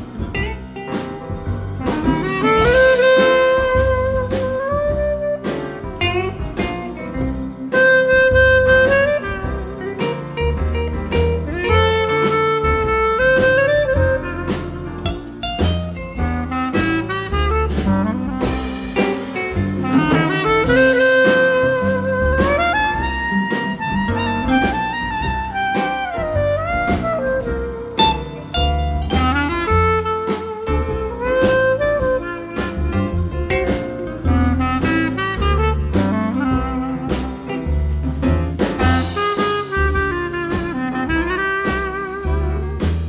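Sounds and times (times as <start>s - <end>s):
drums: 0.0s - 43.0s
jazz horn melody: 0.0s - 43.0s
walking bass line: 0.0s - 43.0s.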